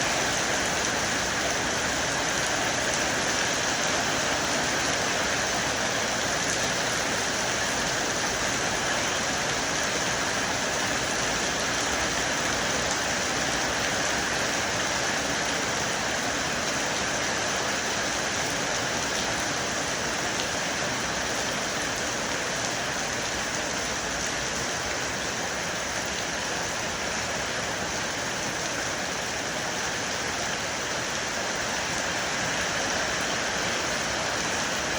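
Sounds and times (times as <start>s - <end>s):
heavy rain on metal unit: 0.0s - 34.9s.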